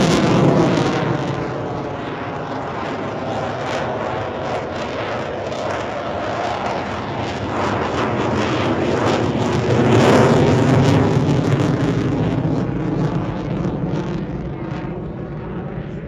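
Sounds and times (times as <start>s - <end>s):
aircraft engine roar flying past: 0.0s - 16.0s.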